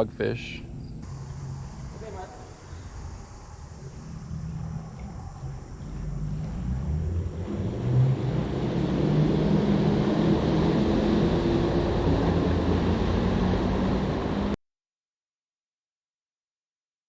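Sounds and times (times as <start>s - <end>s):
engine humming: 0.0s - 14.6s.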